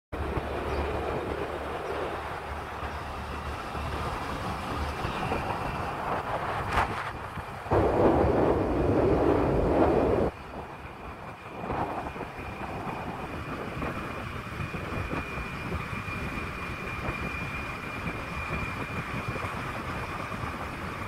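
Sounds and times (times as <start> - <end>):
road and wind noise: 0.1 - 21.0
low vehicle rumble: 0.2 - 21.0.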